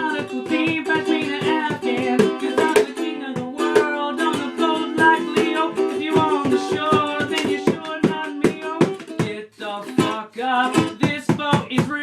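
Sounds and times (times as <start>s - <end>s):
person singing or rapping: 0.0s - 12.0s
ukulele strumming: 0.0s - 12.0s.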